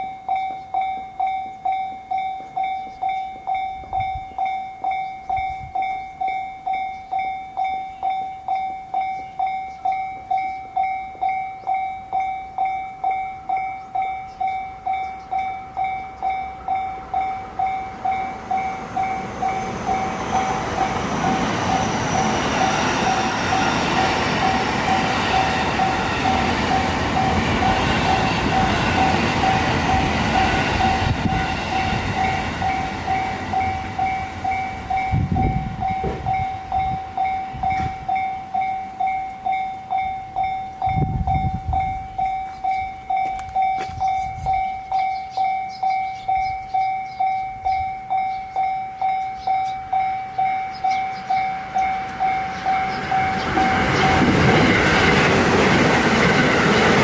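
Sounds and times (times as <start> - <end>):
level crossing warning bell: 0.0 - 57.0
train rumbling past: 0.0 - 57.0.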